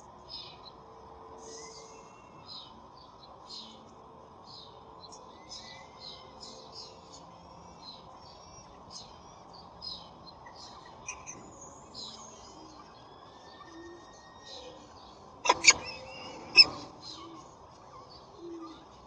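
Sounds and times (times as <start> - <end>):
birds chirping: 0.0 - 19.0
low background hum: 0.0 - 19.0.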